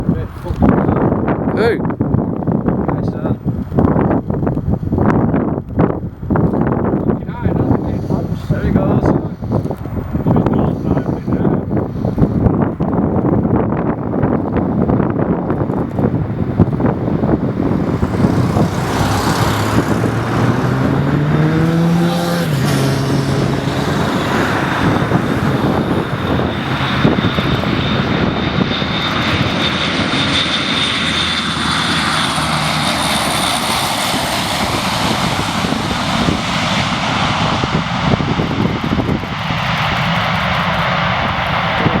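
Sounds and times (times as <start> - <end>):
aircraft engines passing: 0.0 - 42.0
high engine whine: 5.6 - 42.0.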